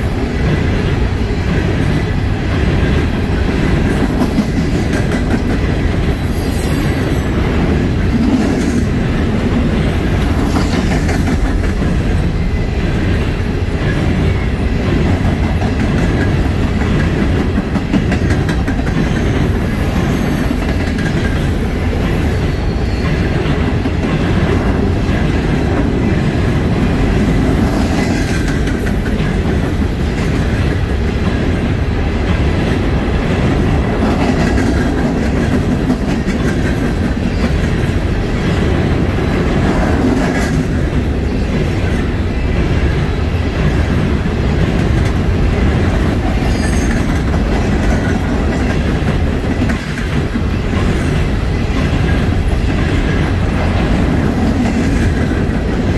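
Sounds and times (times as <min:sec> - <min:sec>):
freight train rumbling past: 0:00.0 - 0:55.9
train wheels clacking over rail joints: 0:00.0 - 0:55.9.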